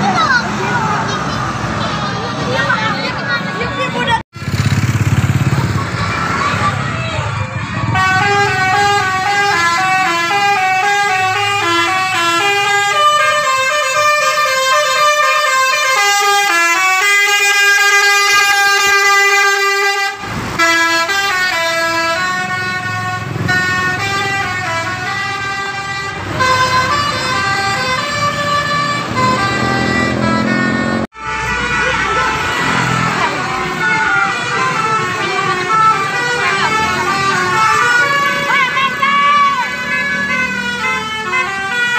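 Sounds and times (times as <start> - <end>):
multi-tone bus horn tune: 7.6 - 41.9.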